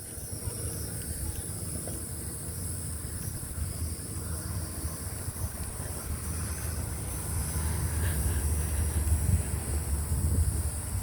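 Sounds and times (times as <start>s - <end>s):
steady high hiss: 0.0s - 11.0s
wind rumbling on microphone: 0.0s - 11.0s.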